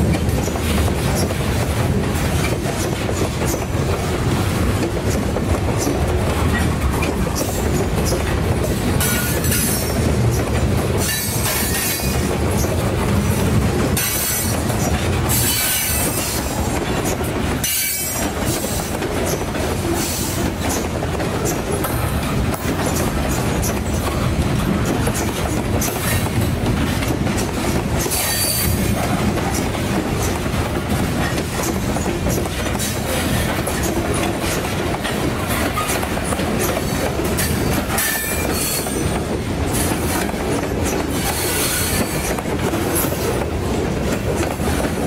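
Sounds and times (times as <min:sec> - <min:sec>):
clickety-clack over rail joints: 0:00.0 - 0:45.0
train wheels rumbling on rails: 0:00.0 - 0:45.0.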